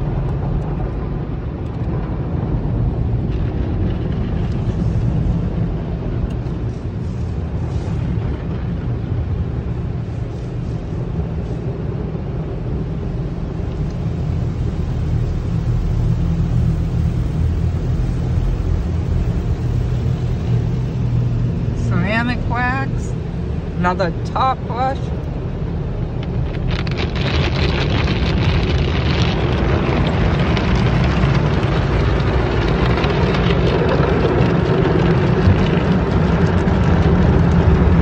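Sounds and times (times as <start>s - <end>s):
water spray and brushes rumbling: 0.0s - 38.0s.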